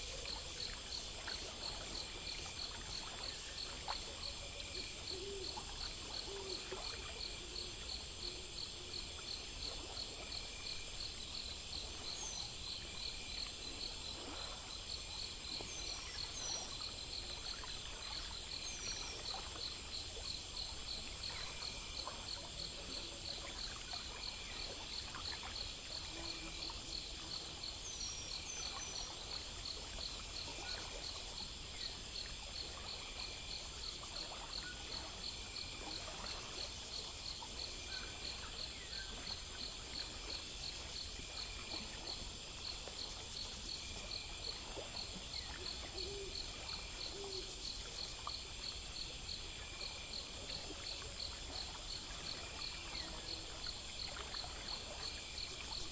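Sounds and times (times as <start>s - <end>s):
insects chirping: 0.0s - 55.9s.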